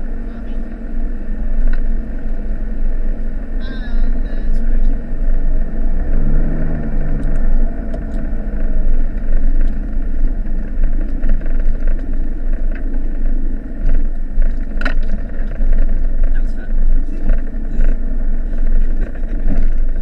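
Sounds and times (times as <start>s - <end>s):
body and suspension rattles: 0.0s - 20.0s
engine and tyre rumble: 0.0s - 20.0s.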